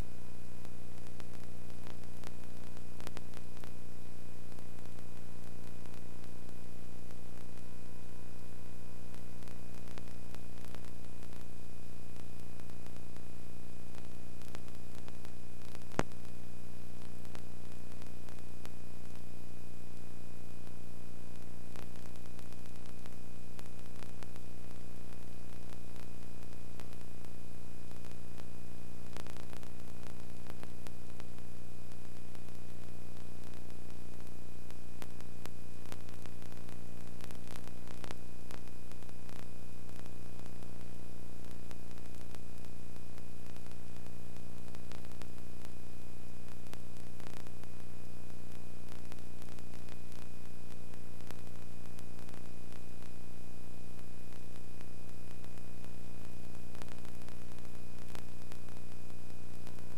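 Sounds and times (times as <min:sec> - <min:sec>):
constant hiss: 0:00.0 - 0:59.9
electrical hum: 0:00.0 - 0:59.9
faint clicks: 0:00.6 - 0:07.9, 0:09.0 - 0:19.4, 0:20.4 - 0:53.2.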